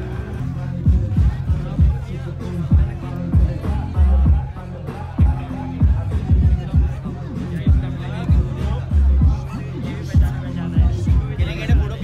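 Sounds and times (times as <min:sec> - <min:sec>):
background music with heavy beat: 0:00.0 - 0:12.0.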